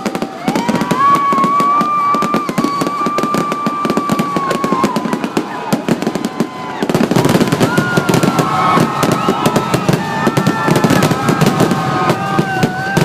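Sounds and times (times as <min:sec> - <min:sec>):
fireworks bangs and crackles: 0:00.0 - 0:13.0
high whistling fireworks: 0:00.0 - 0:13.0.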